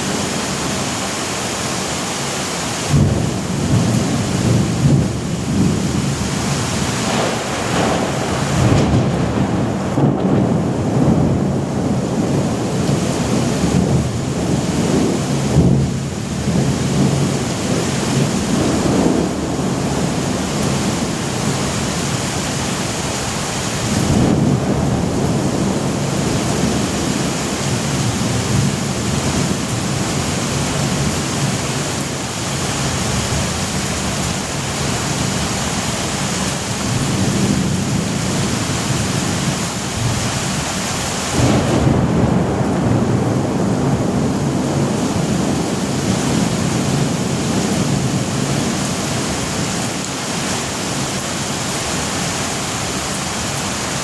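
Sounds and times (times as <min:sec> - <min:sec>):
heavy rain: 0:00.0 - 0:54.0
rolling thunder: 0:02.9 - 0:51.2.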